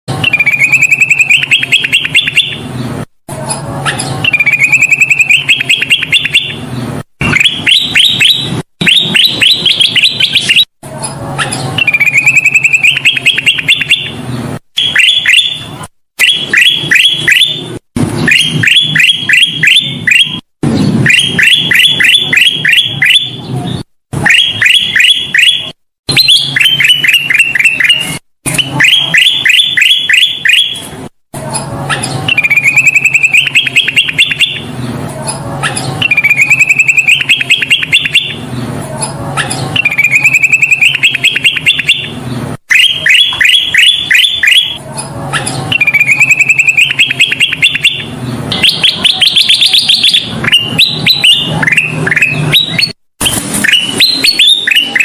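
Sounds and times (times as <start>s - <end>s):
bird singing chirps and trills: 0.2s - 30.9s, 31.6s - 53.0s, 53.6s - 55.0s.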